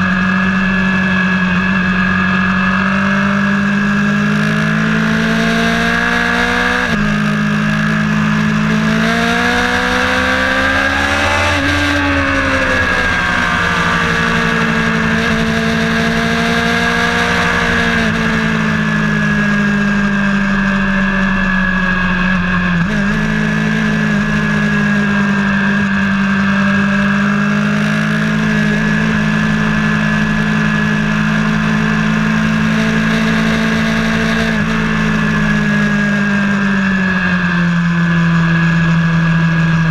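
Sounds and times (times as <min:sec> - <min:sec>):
vehicle engine droning under load: 0:00.0 - 0:39.9.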